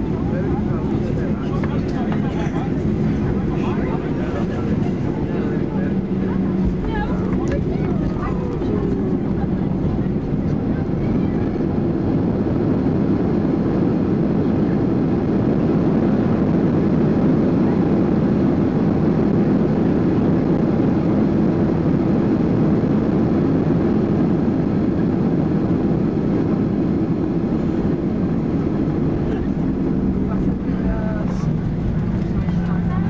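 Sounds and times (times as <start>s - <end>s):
plane engines and wheels rumbling: 0.0s - 33.0s.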